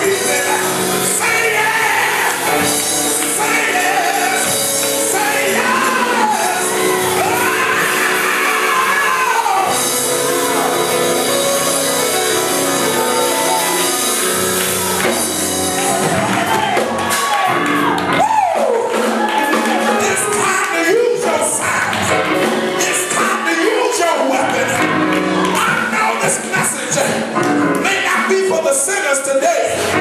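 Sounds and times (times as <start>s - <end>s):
gospel music instruments: 0.0s - 30.0s
people singing and shouting: 0.0s - 30.0s.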